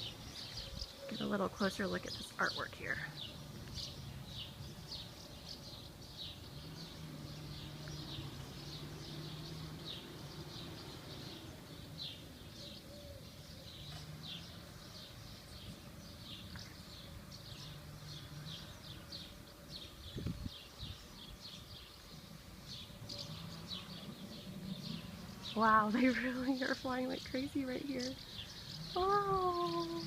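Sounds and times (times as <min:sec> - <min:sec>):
flock of small birds twittering: 0:00.0 - 0:30.0.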